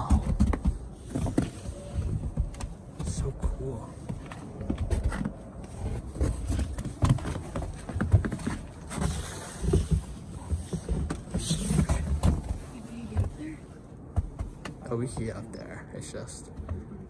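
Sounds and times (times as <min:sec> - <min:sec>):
footsteps on stone and snow: 0:00.0 - 0:15.4.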